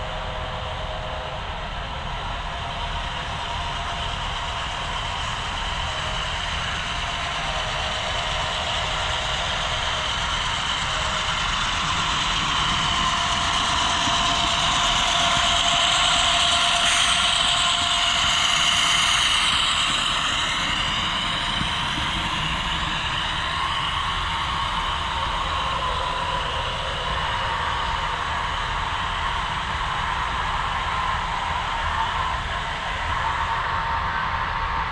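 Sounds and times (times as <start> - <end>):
model train running: 2.2 - 34.9.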